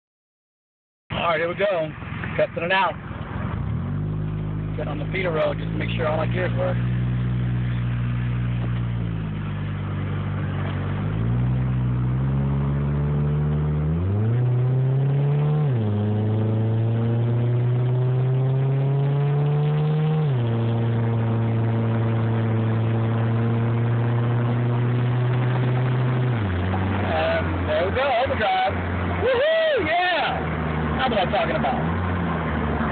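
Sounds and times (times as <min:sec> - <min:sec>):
car engine accelerating through gears: 0:03.0 - 0:32.9.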